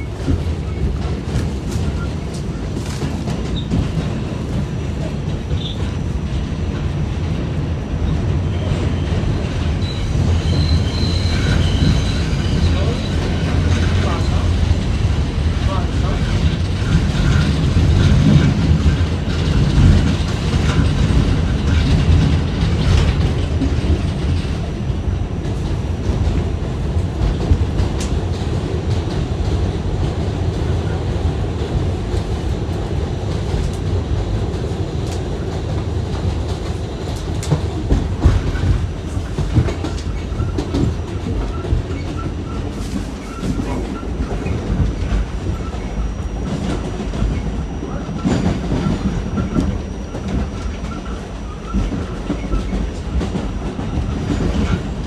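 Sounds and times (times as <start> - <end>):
subway wheels rumbling on rails: 0.0 - 55.0.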